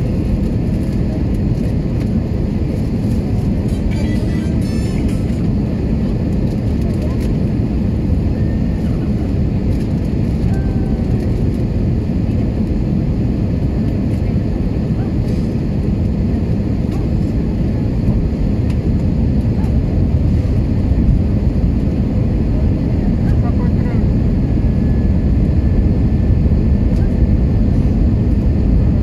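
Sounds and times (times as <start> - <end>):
low rumble of engines: 0.0 - 29.0.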